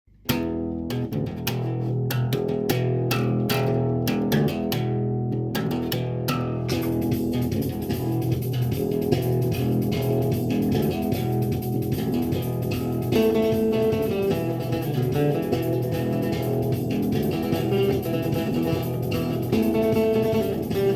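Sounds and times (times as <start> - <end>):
bass guitar playing: 0.1 - 20.9.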